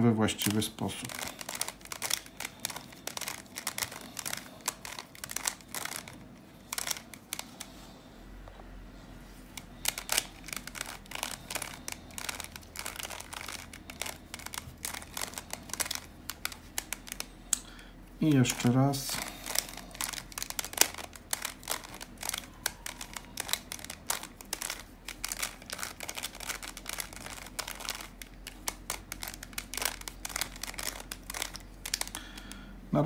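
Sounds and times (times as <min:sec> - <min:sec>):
plastic puzzle cube clicking: 0:00.4 - 0:07.7, 0:09.6 - 0:17.7, 0:18.4 - 0:32.6.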